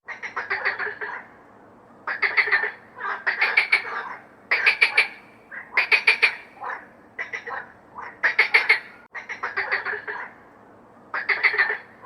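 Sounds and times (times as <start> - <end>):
frog croaking: 0.0 - 1.3, 2.1 - 10.4, 11.1 - 12.0.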